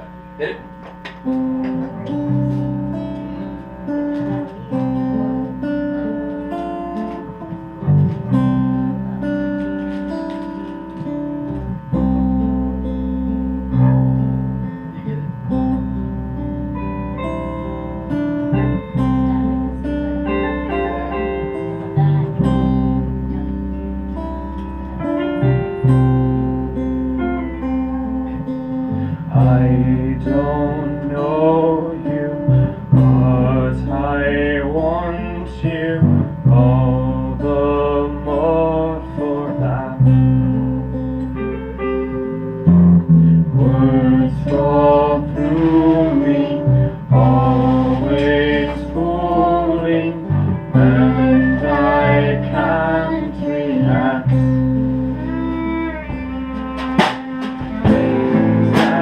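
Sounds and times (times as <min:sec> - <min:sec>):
acoustic guitars strumming: 0:00.0 - 0:59.0
deep bass notes: 0:00.0 - 0:59.0.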